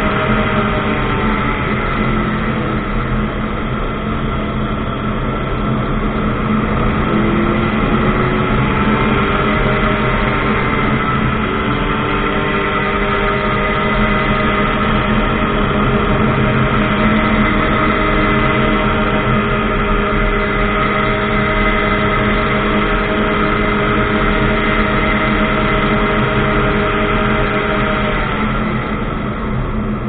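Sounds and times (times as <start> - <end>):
light aircraft engine and propeller: 0.0 - 30.0.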